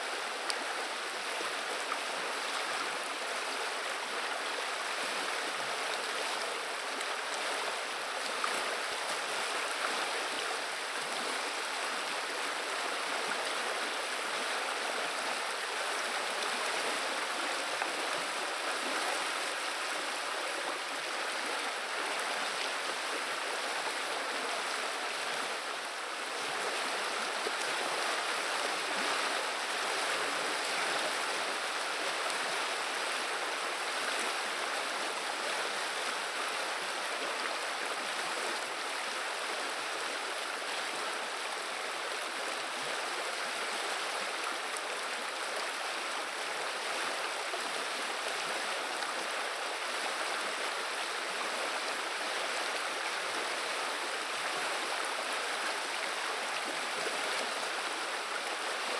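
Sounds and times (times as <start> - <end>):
river water running: 0.0 - 58.9.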